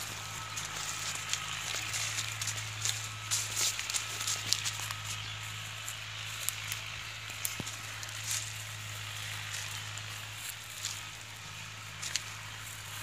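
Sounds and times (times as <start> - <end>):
bare footsteps on dry leaves: 0.0 - 13.0
steady low hum: 0.0 - 13.0.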